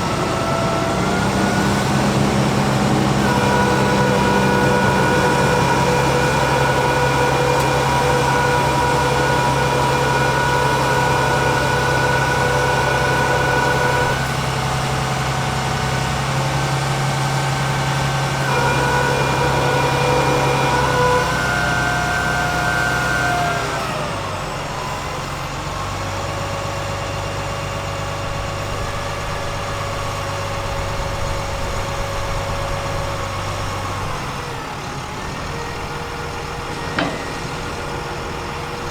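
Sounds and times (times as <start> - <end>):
diesel engine running with whine: 0.0 - 38.9.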